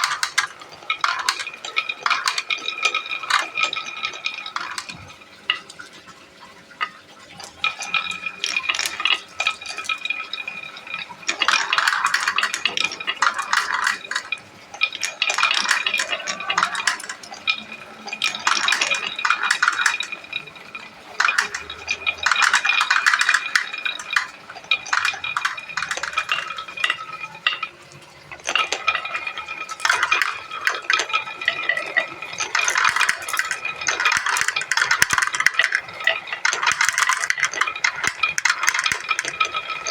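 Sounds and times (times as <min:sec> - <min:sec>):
marbles clattering down wooden run: 0:00.0 - 0:39.9.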